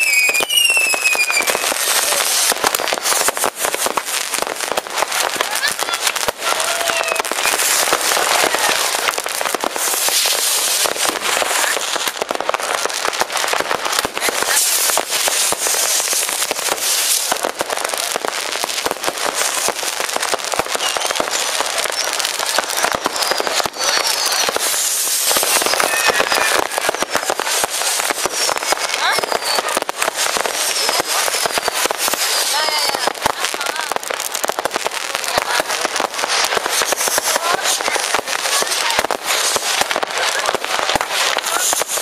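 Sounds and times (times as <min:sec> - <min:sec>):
rockets whistling: 0:00.0 - 0:34.2
fireworks crackling and banging: 0:00.0 - 0:42.0.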